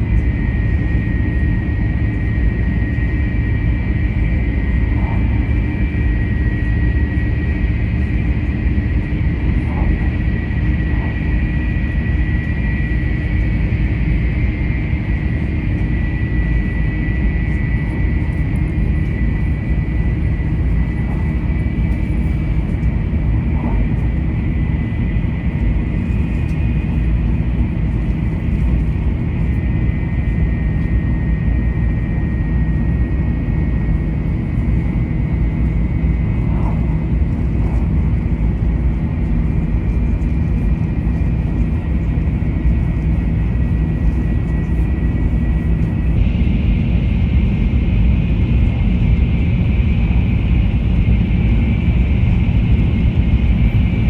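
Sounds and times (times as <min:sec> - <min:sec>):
train rumble with high whine: 0:00.0 - 0:54.0.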